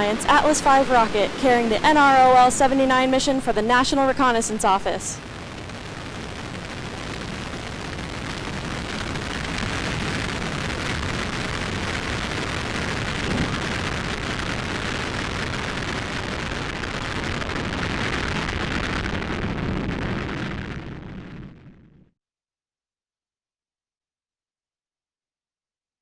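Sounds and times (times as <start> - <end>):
rocket engine rumbling: 0.0 - 22.0.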